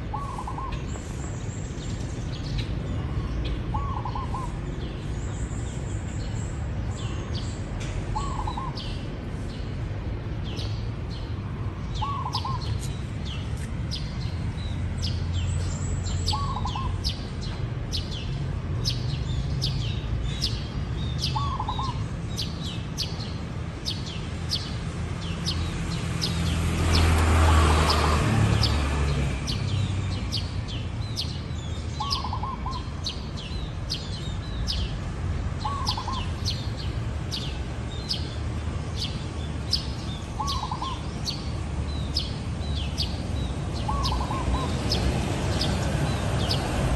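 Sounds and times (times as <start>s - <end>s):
broad rush of noise: 0.0s - 46.9s
small birds chirping: 0.1s - 46.9s.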